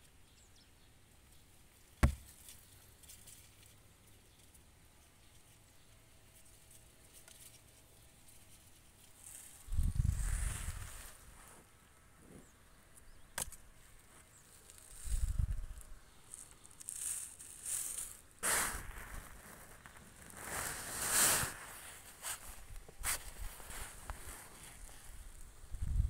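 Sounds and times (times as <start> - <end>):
rustling in dry leaves and grass: 1.2 - 26.0.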